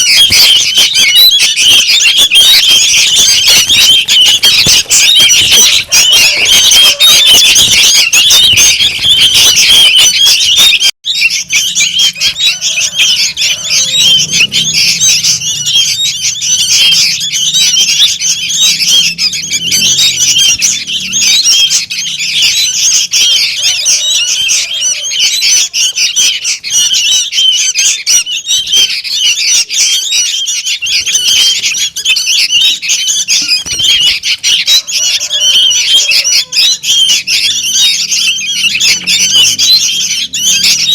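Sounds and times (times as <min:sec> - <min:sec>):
young birds chirping in chorus: 0:00.0 - 0:40.9.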